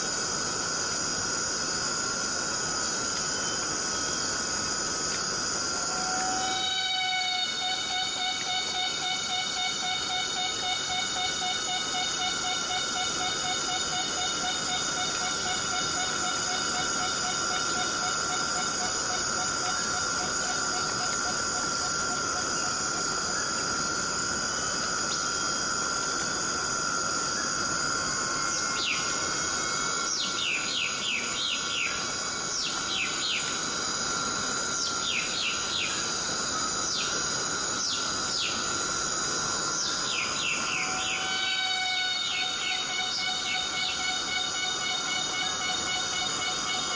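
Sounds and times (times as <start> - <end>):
high insect drone: 0.0 - 46.9
steady rain hiss: 0.0 - 46.9.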